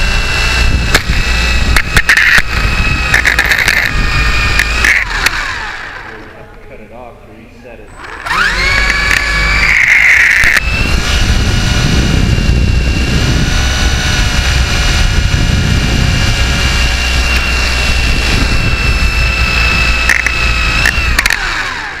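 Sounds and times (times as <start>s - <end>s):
rotor wind buffeting microphone: 0.0s - 6.5s, 7.9s - 22.0s
helicopter motor whining: 0.0s - 22.0s.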